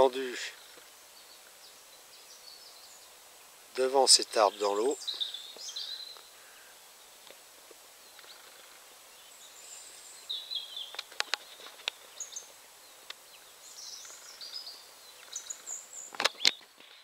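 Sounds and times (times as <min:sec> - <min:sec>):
faint outdoor hiss: 0:00.0 - 0:17.0
small birds chirping: 0:00.0 - 0:17.0.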